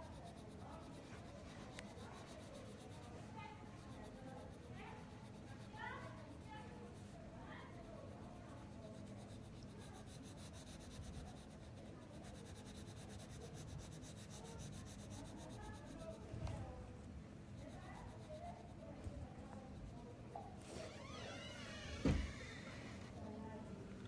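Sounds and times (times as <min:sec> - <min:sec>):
pencil rubbing on paper: 0:00.0 - 0:20.6.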